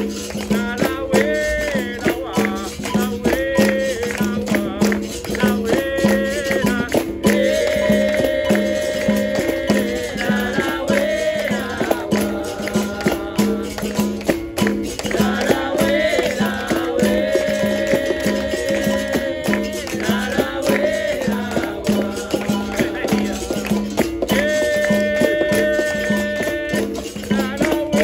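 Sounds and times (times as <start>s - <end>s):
berimbau rhythm: 0.0s - 28.0s
hand percussion: 0.0s - 28.0s
shaker rattling: 0.0s - 28.0s
voices singing held notes: 0.0s - 28.0s.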